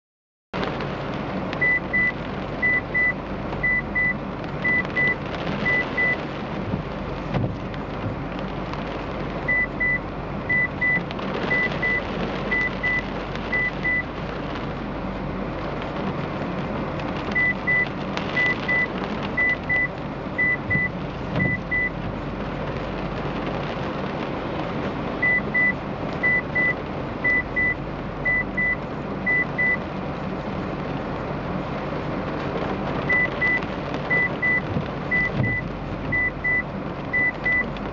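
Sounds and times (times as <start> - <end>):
rain on a car: 0.6 - 37.9.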